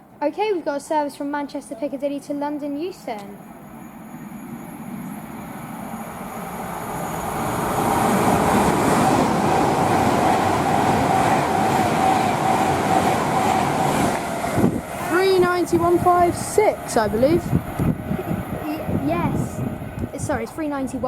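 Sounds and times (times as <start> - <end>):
electric train passing with whine: 2.5 - 21.0.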